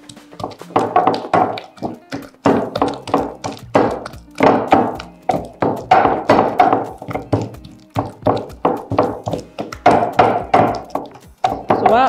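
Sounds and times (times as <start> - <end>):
pestle pounding in a mortar: 0.0 - 12.0.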